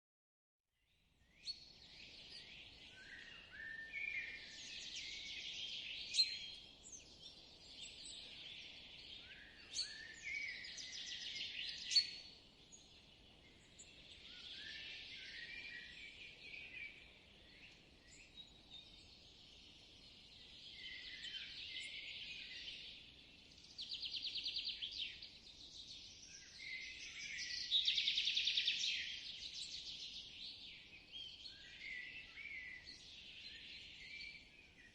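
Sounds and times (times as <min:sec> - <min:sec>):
faint outdoor hiss: 0:00.9 - 0:34.9
songbirds singing and calling: 0:00.9 - 0:34.9.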